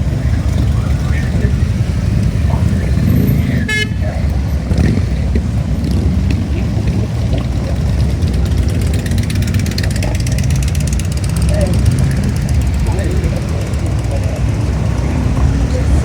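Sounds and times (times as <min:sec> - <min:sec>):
motorcycles riding past: 0:00.0 - 0:16.0.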